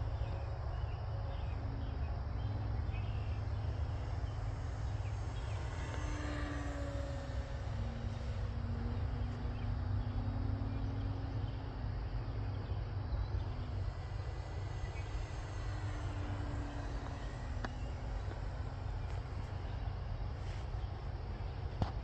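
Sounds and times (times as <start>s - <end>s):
model plane motor droning: 0.0s - 22.0s.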